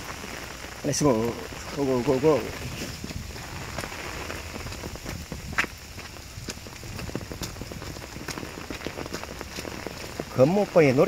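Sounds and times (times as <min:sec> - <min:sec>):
footsteps on wet dirt trail: 0:00.0 - 0:11.0
rain drops ticking: 0:00.0 - 0:11.0.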